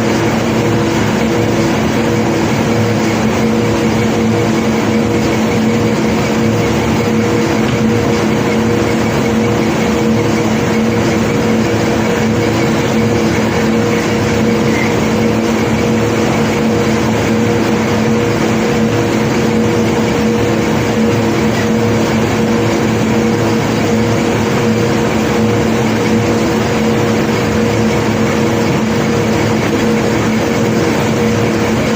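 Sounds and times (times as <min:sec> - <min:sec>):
diesel engine droning: 0:00.0 - 0:31.9.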